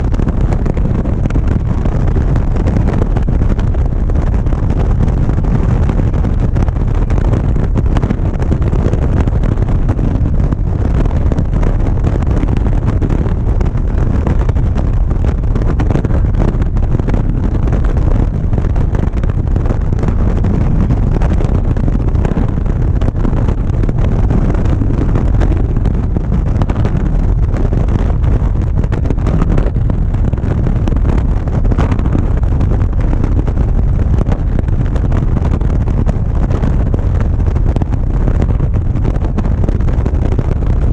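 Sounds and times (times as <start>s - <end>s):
road noise: 0.0s - 40.9s
wind buffeting microphone: 0.0s - 40.9s.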